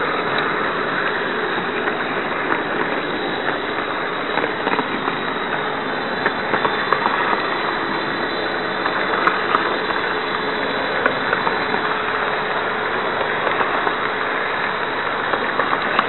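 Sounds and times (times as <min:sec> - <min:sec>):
faint steady hum: 0:00.0 - 0:16.0
model train rattling on track: 0:00.0 - 0:16.0.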